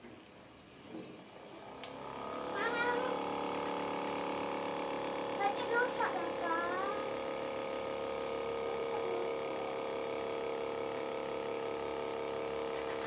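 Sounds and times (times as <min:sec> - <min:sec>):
cotton candy machine motor humming: 0:00.0 - 0:13.0.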